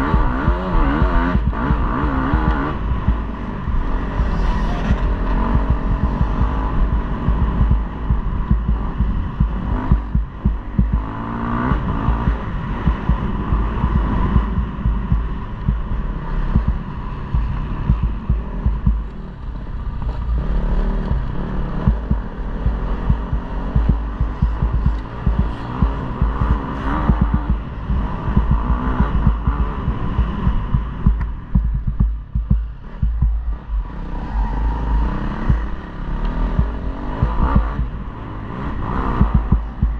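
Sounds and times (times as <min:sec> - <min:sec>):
motocross bike engine revving: 0:00.0 - 0:19.3, 0:19.9 - 0:39.9
low buffeting rumble: 0:00.0 - 0:39.9.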